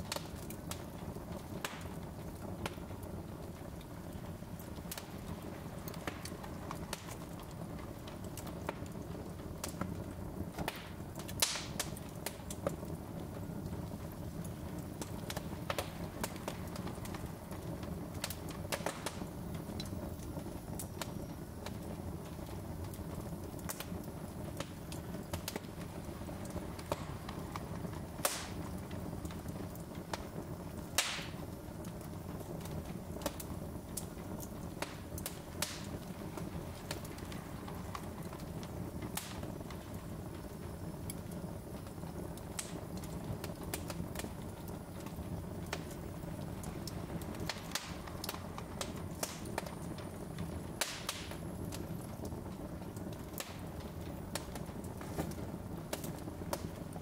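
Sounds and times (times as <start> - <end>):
fire crackling and popping: 0.0 - 57.0
low steady fire rumble: 0.0 - 57.0.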